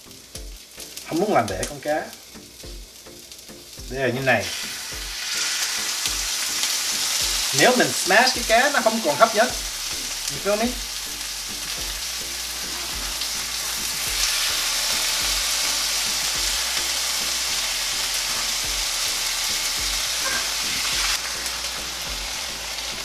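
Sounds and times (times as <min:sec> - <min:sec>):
fish sizzling in a frying pan: 0:00.0 - 0:23.0.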